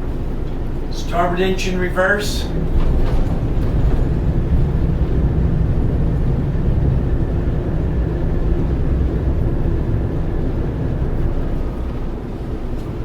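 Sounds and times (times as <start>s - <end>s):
boat diesel engines rumbling: 0.0s - 13.0s.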